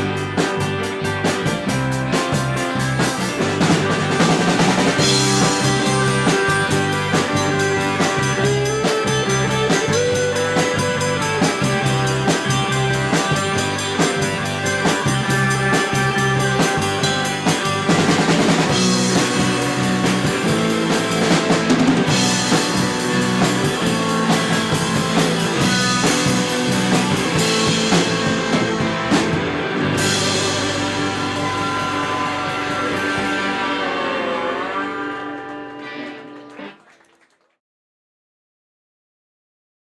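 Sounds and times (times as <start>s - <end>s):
rock music with drums and guitar: 0.0s - 36.6s.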